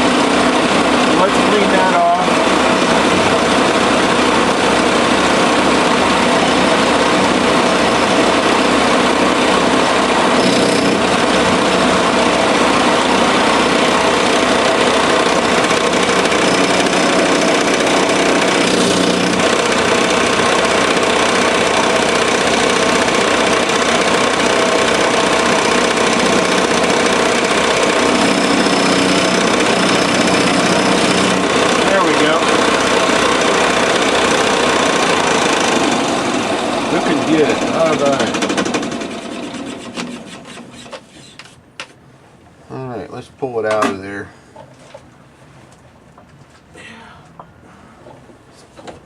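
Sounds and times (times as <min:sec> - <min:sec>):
milling machine cutting steel: 0:00.9 - 0:41.1.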